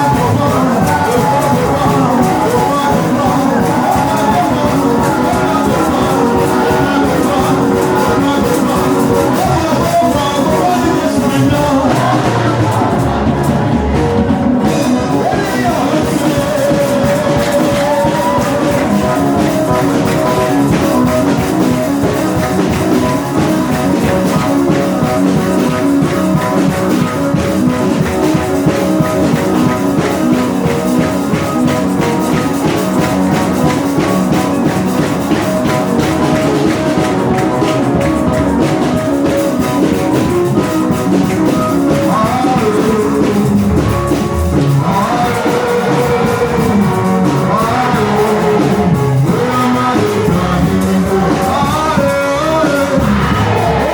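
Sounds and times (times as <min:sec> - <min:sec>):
loud music with drums and guitar: 0:00.0 - 0:53.9
person singing: 0:00.0 - 0:53.9.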